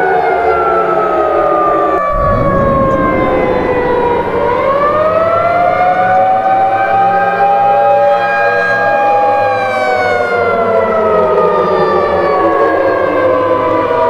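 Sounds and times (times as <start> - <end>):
civil defense siren wailing: 0.0 - 14.0.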